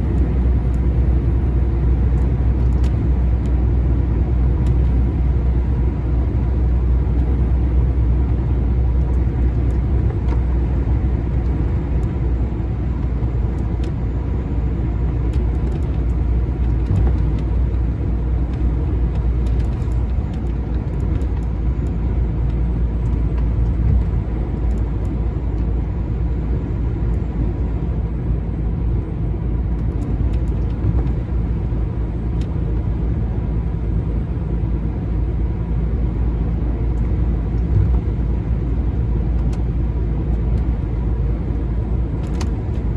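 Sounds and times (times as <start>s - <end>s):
lorry diesel engine rumble: 0.0s - 42.9s.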